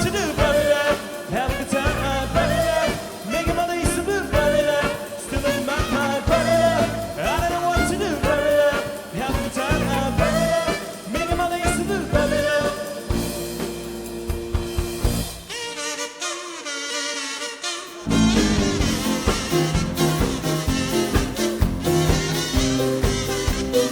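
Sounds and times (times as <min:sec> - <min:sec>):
live ska band playing: 0:00.0 - 0:23.9.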